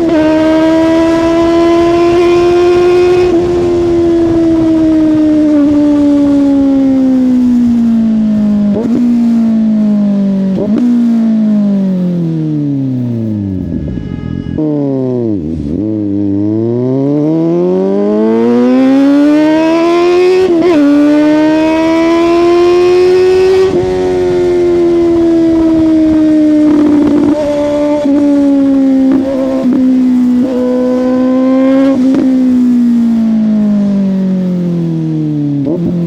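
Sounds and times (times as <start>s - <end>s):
motorcycle engine: 0.0s - 36.0s.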